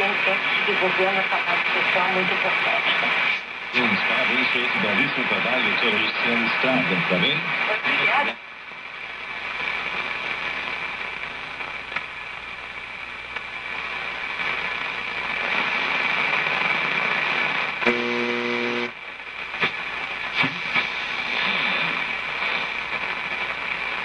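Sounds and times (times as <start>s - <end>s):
radio crackles: 0.0s - 24.0s
radio static hiss: 0.0s - 24.0s.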